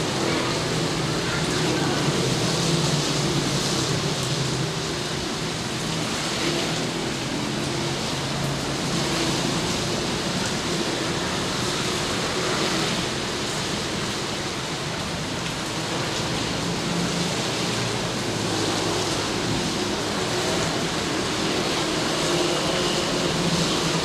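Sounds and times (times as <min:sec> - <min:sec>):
steady rain hiss: 0:00.0 - 0:24.0.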